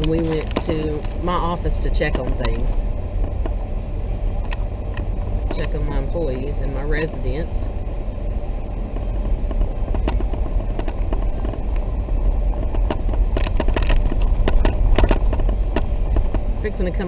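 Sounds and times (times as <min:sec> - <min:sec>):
sharp clicks and crackles: 0:00.0 - 0:03.6, 0:04.4 - 0:17.0
car road and engine rumble: 0:00.0 - 0:17.0.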